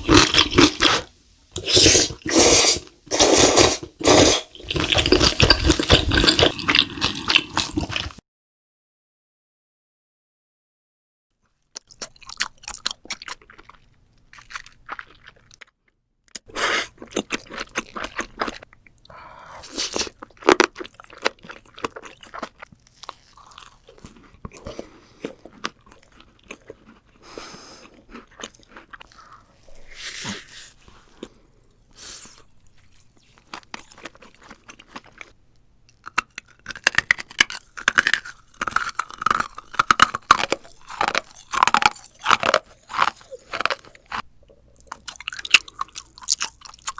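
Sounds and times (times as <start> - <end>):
crunchy chewing of crisp food: 0.0 - 2.3, 3.2 - 8.2, 11.7 - 46.9.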